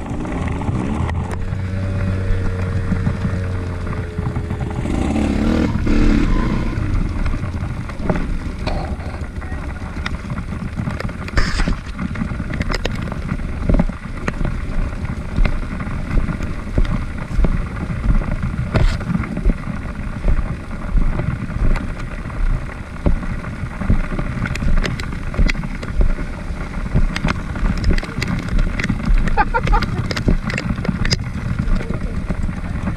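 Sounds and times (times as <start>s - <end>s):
motorcycle engine revving: 0.0s - 32.9s
wind buffeting microphone: 0.0s - 32.9s.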